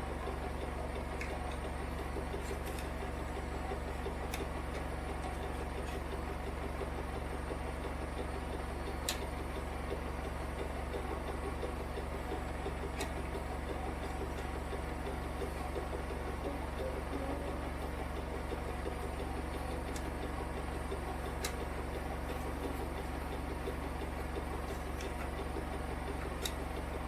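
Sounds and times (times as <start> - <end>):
washing machine hum: 0.0 - 27.0.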